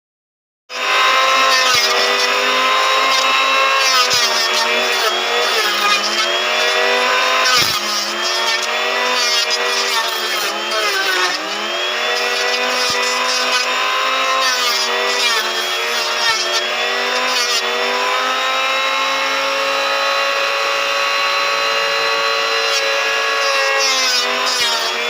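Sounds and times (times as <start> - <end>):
electric jointer whining: 0.7 - 25.0.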